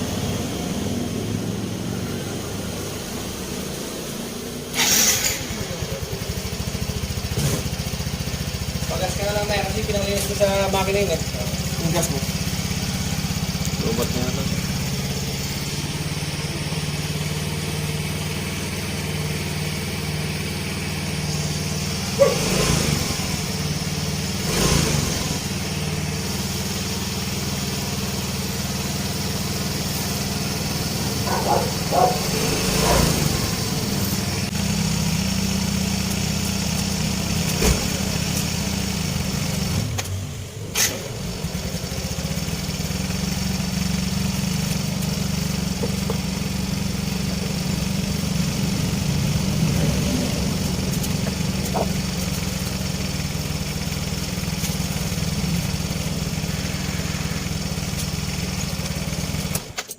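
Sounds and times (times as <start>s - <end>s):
scooter engine idling: 0.0s - 59.9s.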